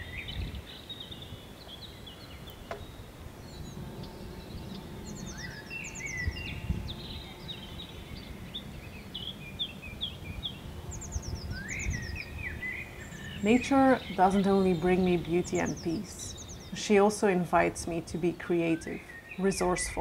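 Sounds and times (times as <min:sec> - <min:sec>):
birds singing: 0:00.0 - 0:20.0
outdoor background rumble: 0:02.5 - 0:20.0.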